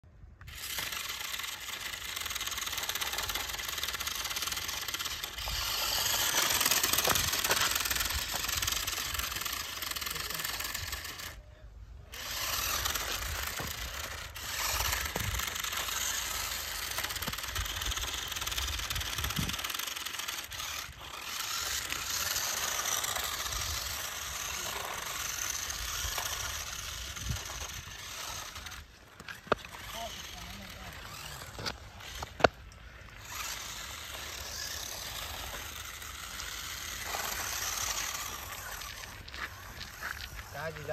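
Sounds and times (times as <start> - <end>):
toy car motors whirring: 0.0 - 40.9.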